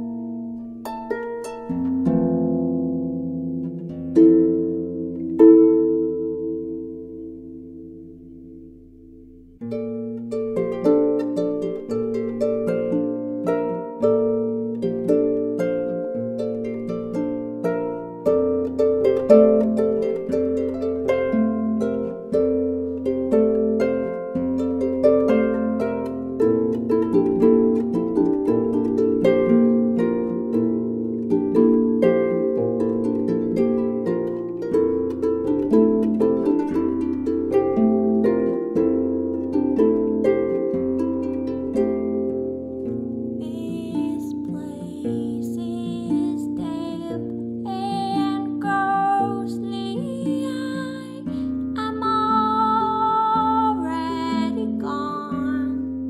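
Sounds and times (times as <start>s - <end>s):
plucked string notes: 0.0s - 56.0s.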